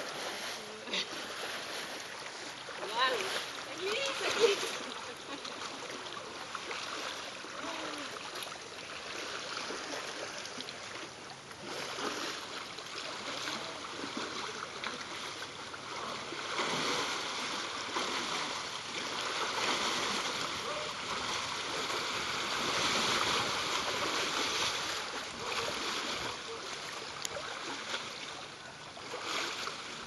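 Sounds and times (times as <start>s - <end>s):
shallow water splashing: 0.0s - 30.0s.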